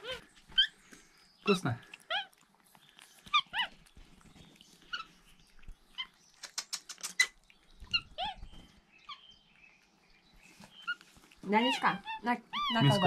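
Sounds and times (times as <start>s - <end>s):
monkeys chirping: 0.0s - 0.8s, 1.4s - 9.3s, 10.7s - 13.0s.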